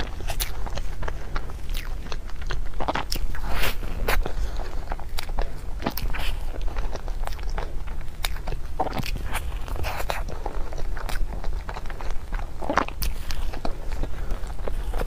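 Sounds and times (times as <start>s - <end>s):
steady low hum: 0.0s - 15.0s
wet chewing of pastry: 0.0s - 15.0s.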